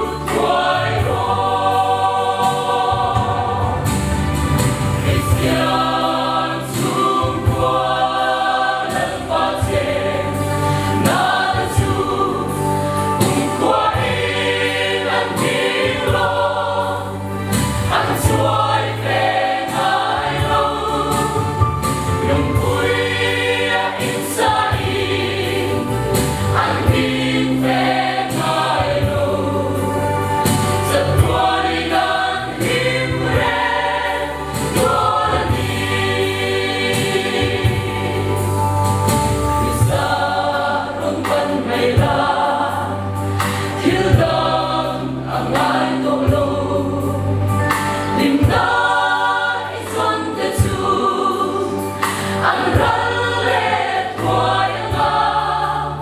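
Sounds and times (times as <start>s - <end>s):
choir singing gospel song: 0.0s - 56.0s.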